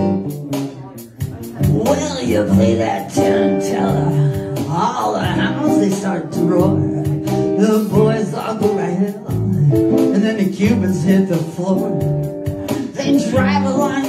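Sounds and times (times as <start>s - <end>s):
man singing: 1.2s - 14.0s.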